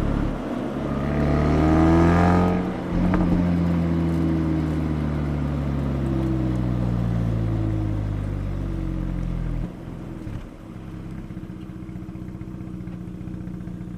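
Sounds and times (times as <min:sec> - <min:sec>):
engine idling: 0:02.6 - 0:13.9.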